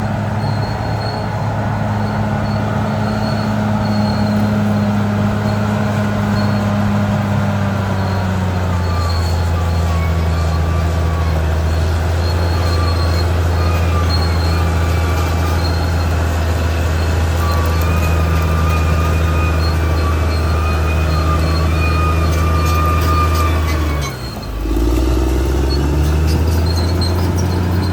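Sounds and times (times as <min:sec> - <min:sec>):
bulldozer diesel engine running: 0:00.0 - 0:27.9.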